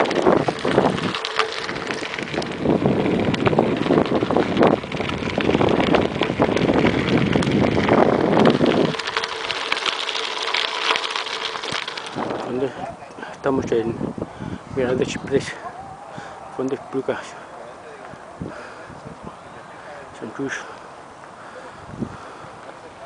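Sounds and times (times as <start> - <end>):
wind rumbling on microphone: 0.0 - 17.3, 18.0 - 20.4, 21.0 - 22.7
bike tyres crunching on gravel: 0.0 - 18.9
mountain bike rattling: 0.0 - 20.8.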